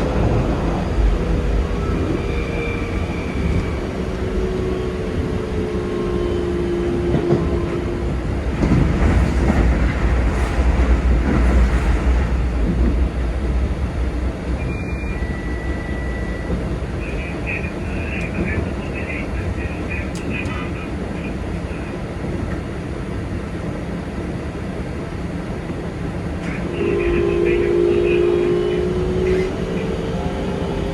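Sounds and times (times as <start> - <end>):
train rattling: 0.0 - 30.9
train wheels rumbling on rail: 0.0 - 30.9.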